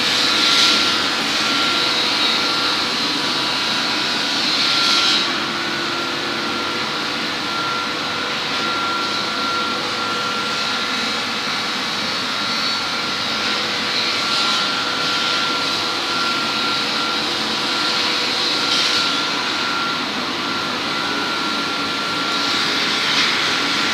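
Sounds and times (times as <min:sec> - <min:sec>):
high steady whine: 0:00.0 - 0:23.9
lathe machinery whirring: 0:00.0 - 0:23.9.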